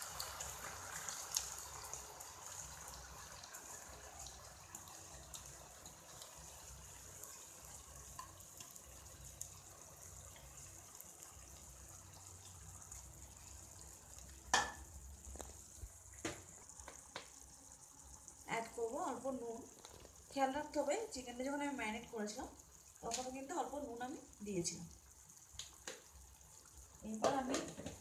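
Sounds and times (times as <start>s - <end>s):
rice frying in oil: 0.0s - 28.0s.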